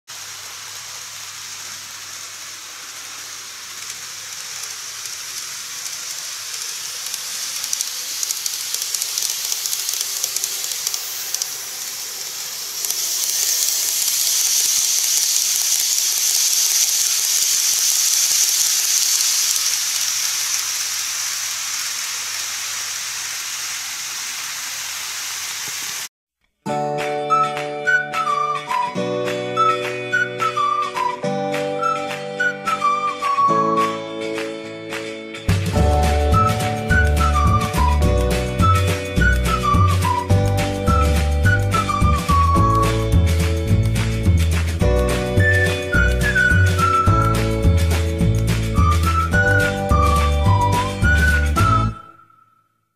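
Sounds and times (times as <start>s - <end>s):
model train rolling on track: 0.1s - 26.1s, 35.5s - 52.0s.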